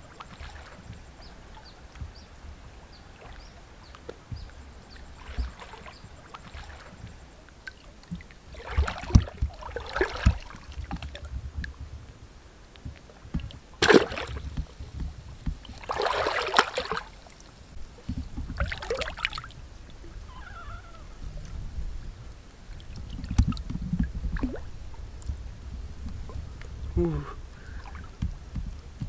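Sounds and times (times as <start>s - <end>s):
water splashing: 0.0s - 29.0s.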